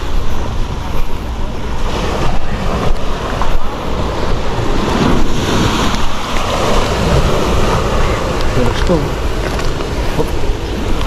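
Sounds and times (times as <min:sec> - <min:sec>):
waves breaking on beach: 0:00.0 - 0:11.0
wind buffeting microphone: 0:00.0 - 0:11.0.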